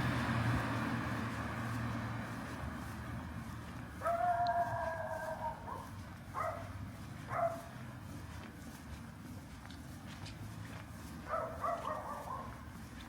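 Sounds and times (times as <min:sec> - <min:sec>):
low city hum: 0:00.0 - 0:13.0.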